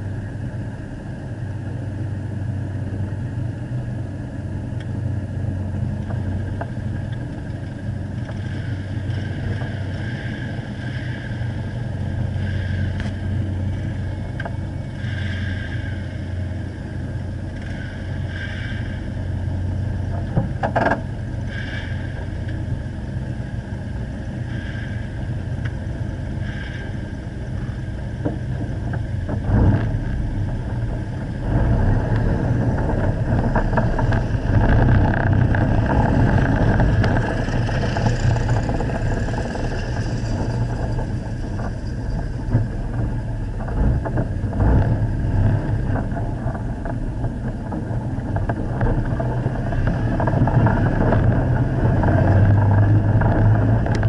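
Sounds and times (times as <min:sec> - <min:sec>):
off-road vehicle engine running: 0:00.0 - 0:54.0.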